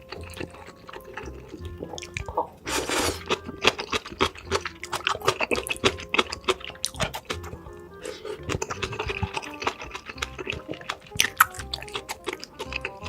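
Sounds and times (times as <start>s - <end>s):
background music: 0.0s - 13.0s
noisy slurp: 0.0s - 13.0s
wet chewing and smacking: 0.0s - 13.0s.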